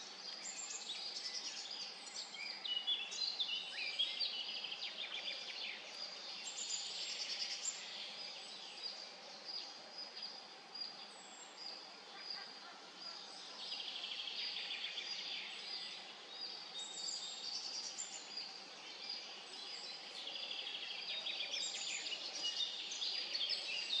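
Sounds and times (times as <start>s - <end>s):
background hiss: 0.0s - 24.0s
songbirds singing: 0.0s - 24.0s.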